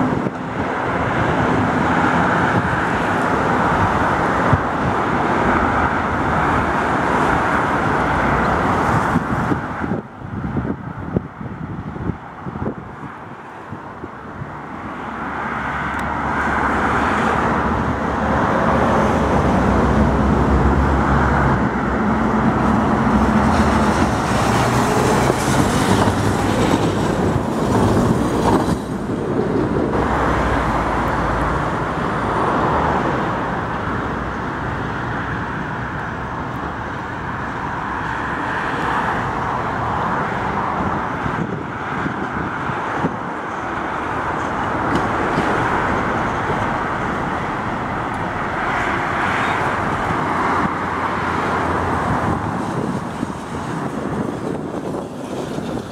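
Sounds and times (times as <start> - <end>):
road traffic: 0.0 - 55.9
tram running on rails: 0.0 - 55.9.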